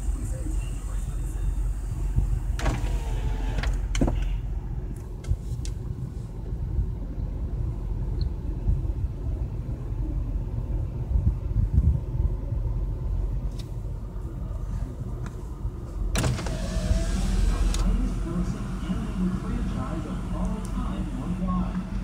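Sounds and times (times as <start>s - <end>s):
car engine rumble: 0.0s - 22.0s.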